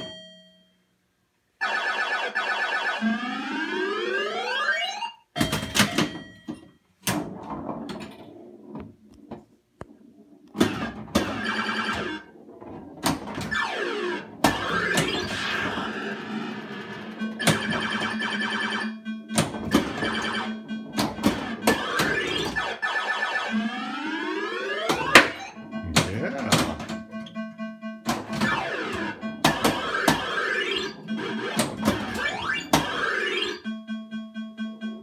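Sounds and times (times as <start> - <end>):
pinball machine electronic tones: 1.6 - 35.0.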